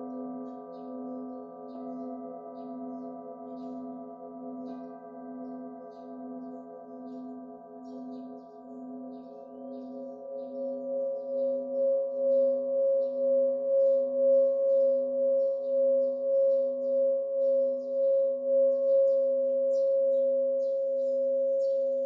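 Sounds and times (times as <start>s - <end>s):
singing bowl ringing: 0.0s - 22.0s
small birds chirping: 0.1s - 22.0s.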